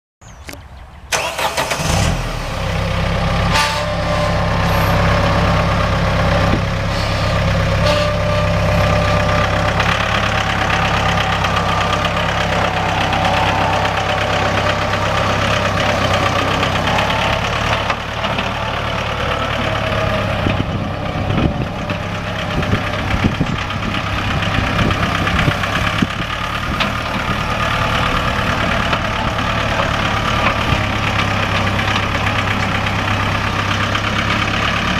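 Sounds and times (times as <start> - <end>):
tractor diesel engine starting and idling: 1.0 - 34.9.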